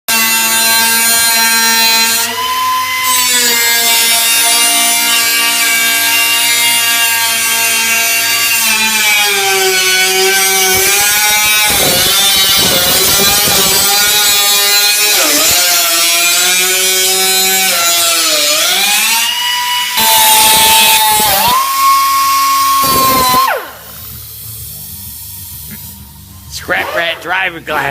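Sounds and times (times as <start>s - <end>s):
power tool motor whining: 0.2s - 26.1s.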